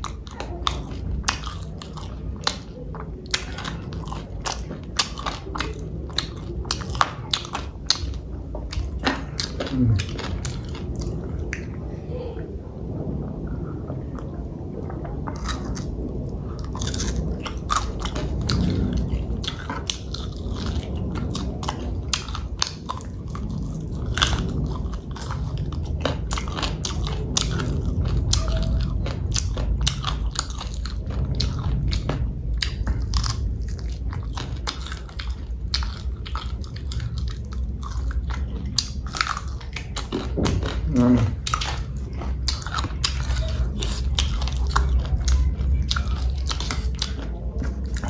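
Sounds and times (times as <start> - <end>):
person chewing crunchy food: 0.0 - 11.7, 15.2 - 48.0
wet mouth sounds: 0.0 - 11.8, 15.2 - 48.0.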